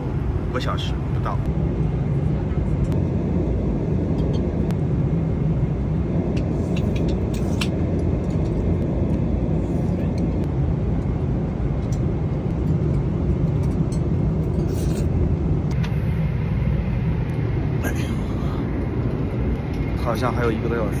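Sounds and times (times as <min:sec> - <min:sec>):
airliner cabin roar: 0:00.0 - 0:21.0.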